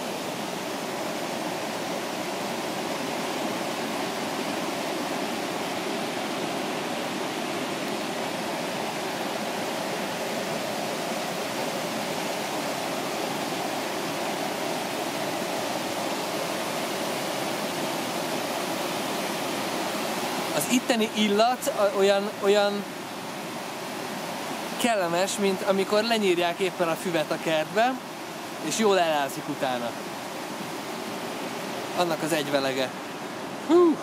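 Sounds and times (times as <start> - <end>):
river rushing over rocks: 0.0 - 34.0.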